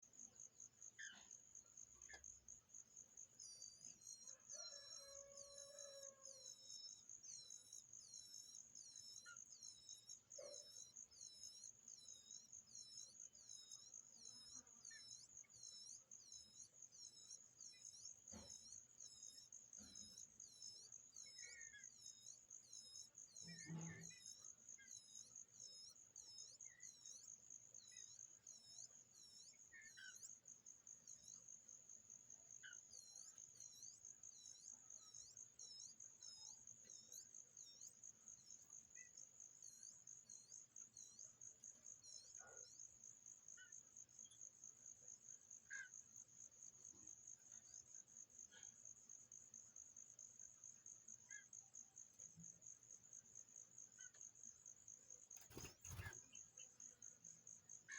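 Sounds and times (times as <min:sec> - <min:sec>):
insect chirring: 0:00.1 - 0:57.9.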